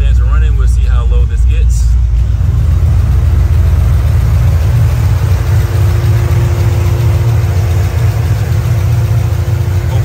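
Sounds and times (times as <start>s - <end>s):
car engine idling: 0.0s - 10.0s
electric radiator fans running: 0.0s - 10.0s.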